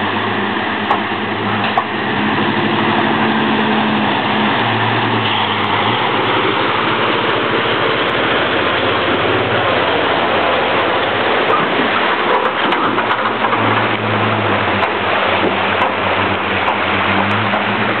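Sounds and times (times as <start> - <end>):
truck engine humming: 0.0 - 18.0
tyres churning mud and water: 0.0 - 18.0.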